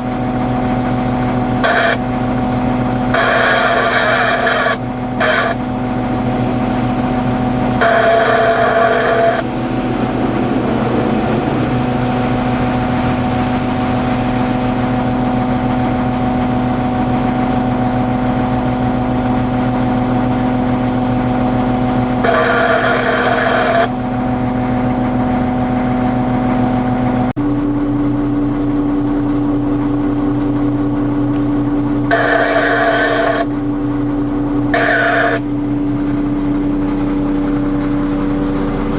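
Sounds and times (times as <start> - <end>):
heavy equipment engine droning: 0.0 - 38.9.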